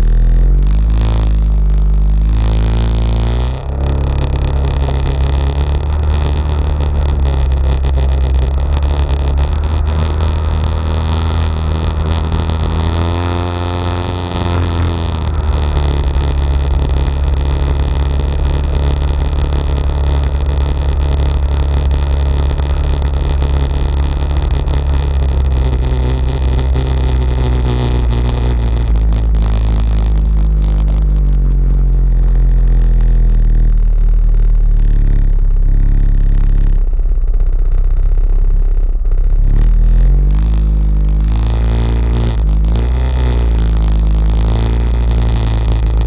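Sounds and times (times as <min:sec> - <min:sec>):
atv engine rumbling: 0:00.0 - 0:46.0.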